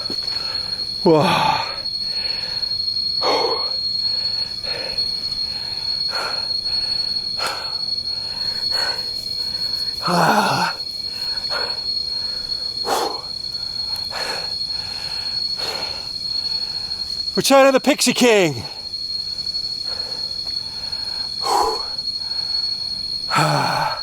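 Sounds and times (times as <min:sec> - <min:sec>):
person breathing heavily: 0:00.0 - 0:17.0, 0:19.8 - 0:24.0
insects ringing: 0:00.0 - 0:24.0.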